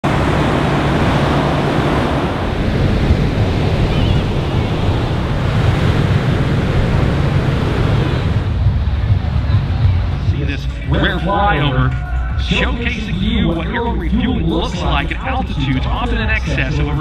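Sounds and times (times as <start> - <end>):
ocean surf breaking: 0.0 - 17.0
wind rumbling on microphone: 0.0 - 17.0.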